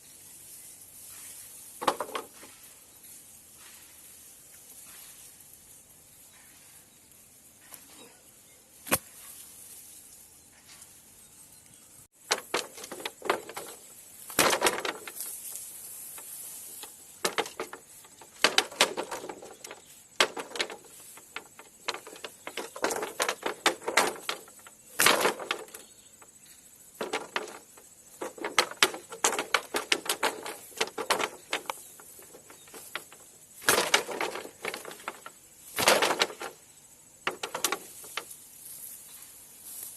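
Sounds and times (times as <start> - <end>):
materials rustling: 0.2 - 11.1, 12.1 - 39.9.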